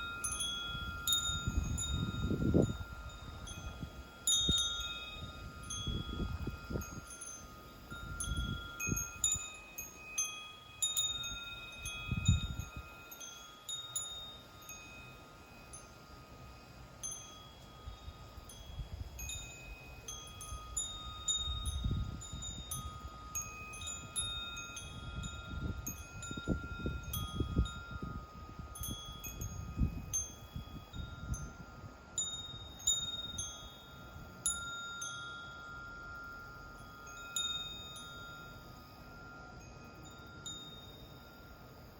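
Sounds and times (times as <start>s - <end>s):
wind chimes ringing: 0.0s - 41.9s.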